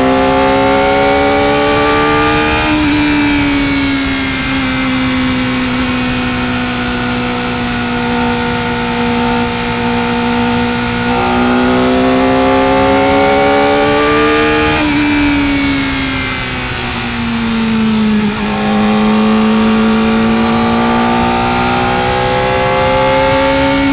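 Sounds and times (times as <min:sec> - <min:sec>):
motorcycle engine at high revs: 0:00.0 - 0:23.9.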